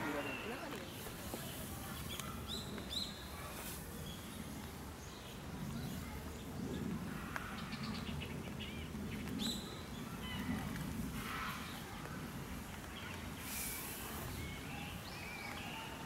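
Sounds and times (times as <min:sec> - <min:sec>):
low background murmur: 0:00.0 - 0:16.0
small birds chirping: 0:00.0 - 0:16.0.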